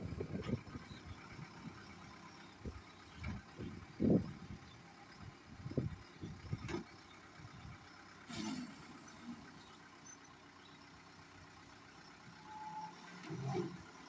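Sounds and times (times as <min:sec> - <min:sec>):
faint diesel engine running: 0:00.0 - 0:14.0.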